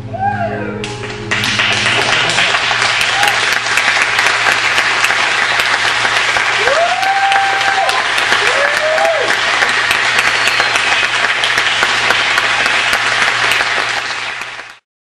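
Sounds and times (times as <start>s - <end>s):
audience applause: 1.0s - 14.8s.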